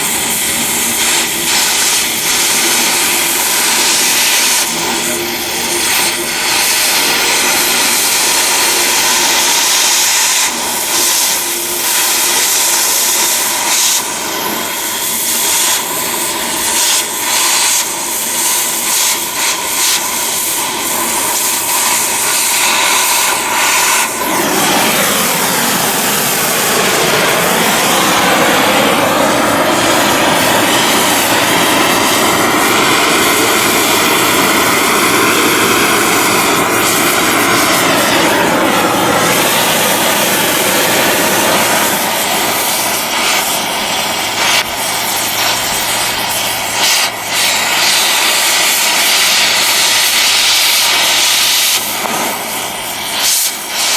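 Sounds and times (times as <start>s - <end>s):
engine drone: 0.0s - 53.9s
gas torch hissing: 0.0s - 53.9s.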